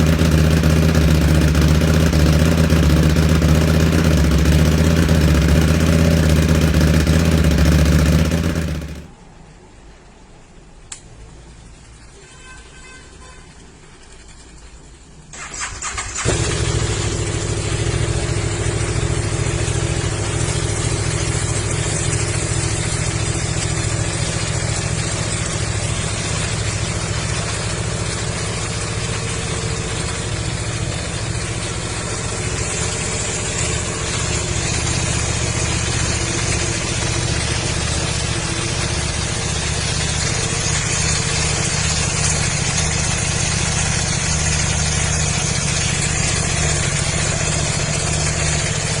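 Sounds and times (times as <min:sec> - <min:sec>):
motorcycle engine idling: 0:00.0 - 0:09.1, 0:16.2 - 0:49.0.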